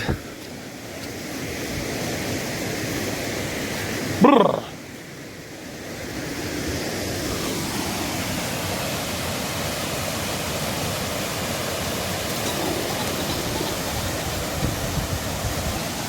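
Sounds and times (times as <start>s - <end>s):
rushing stream: 0.0s - 16.0s.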